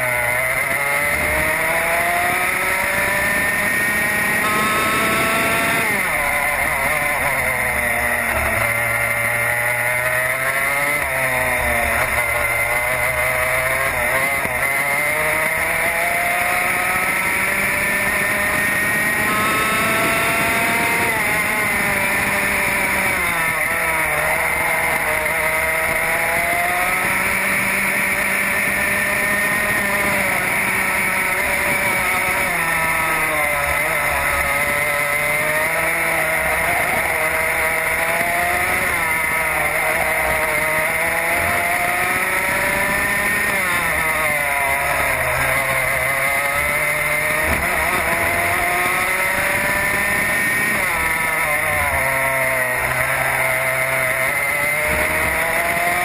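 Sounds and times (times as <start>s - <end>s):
racing kart engine: 0.0s - 56.0s.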